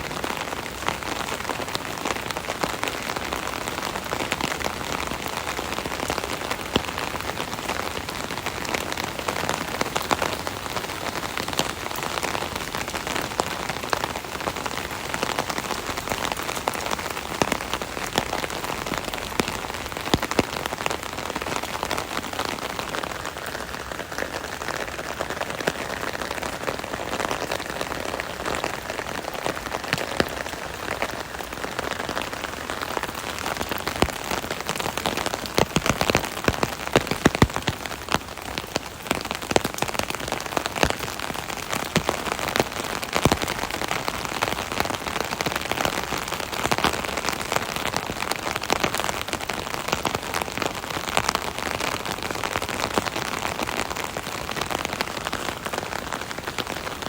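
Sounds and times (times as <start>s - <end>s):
rain pattering on umbrella: 0.0s - 57.0s.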